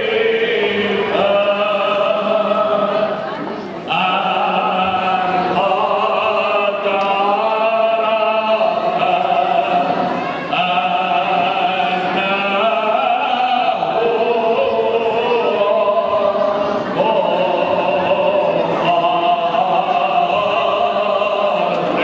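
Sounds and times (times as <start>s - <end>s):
voices chanting: 0.0s - 22.0s.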